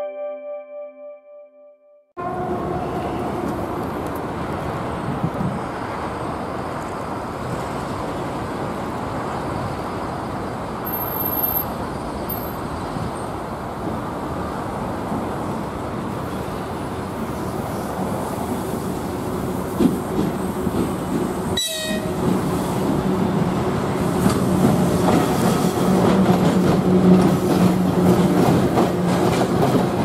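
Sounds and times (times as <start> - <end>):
road traffic hum: 2.2 - 30.0.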